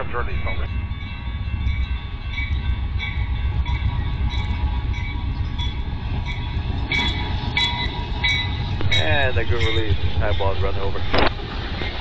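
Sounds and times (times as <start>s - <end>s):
crossing warning bell: 0.0s - 12.0s
diesel locomotive rumbling: 0.0s - 12.0s.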